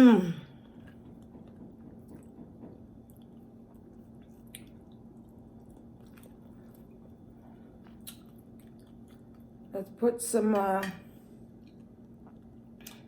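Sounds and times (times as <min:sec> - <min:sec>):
person chewing food: 0:00.5 - 0:09.7, 0:11.5 - 0:13.0.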